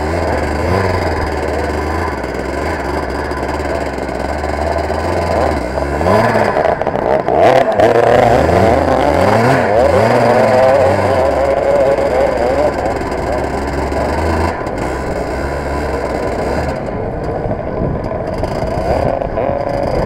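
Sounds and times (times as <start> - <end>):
kart engine revving: 0.0 - 20.0.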